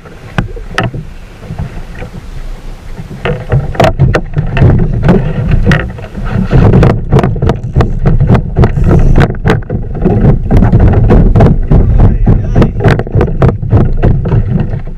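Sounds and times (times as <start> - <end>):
steady low rumble: 0.0 - 14.9
water slapping against hull: 0.0 - 14.9
wind buffeting microphone: 0.0 - 14.9.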